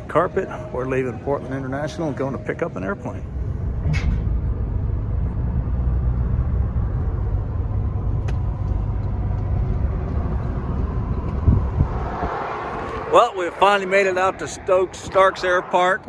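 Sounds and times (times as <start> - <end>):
car tyre and engine rumble: 3.1 - 16.0.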